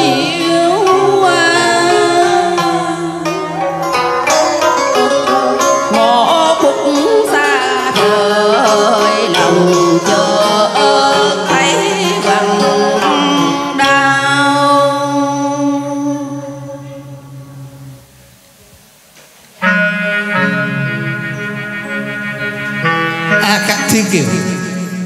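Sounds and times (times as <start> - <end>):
traditional music with wavering melody: 0.0 - 18.9, 19.5 - 25.0.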